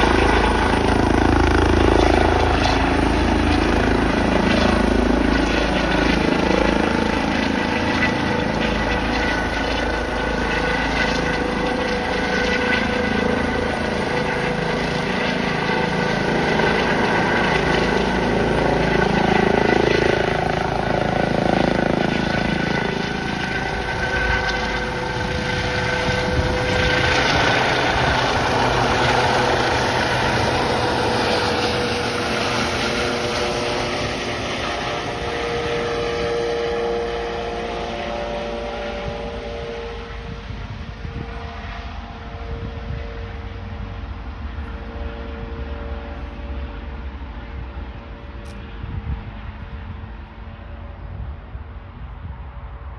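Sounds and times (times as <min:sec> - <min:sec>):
helicopter rotor rush: 0:00.0 - 0:52.9
helicopter turbine whine: 0:00.0 - 0:52.9.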